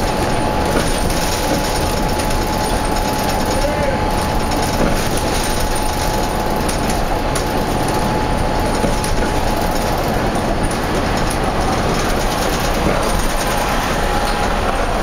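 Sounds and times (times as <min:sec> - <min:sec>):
bus engine: 0:00.0 - 0:15.0.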